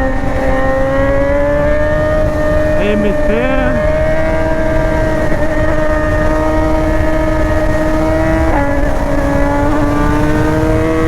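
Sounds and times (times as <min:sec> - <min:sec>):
wind rush on microphone: 0:00.0 - 0:02.9, 0:03.8 - 0:11.0
motorcycle engine accelerating: 0:00.0 - 0:11.0.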